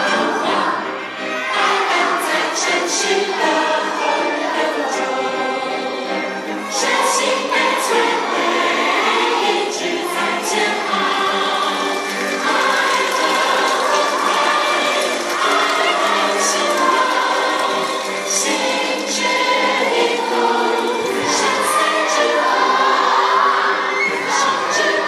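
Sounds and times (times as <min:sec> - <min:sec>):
choir singing with instruments: 0:00.0 - 0:25.0.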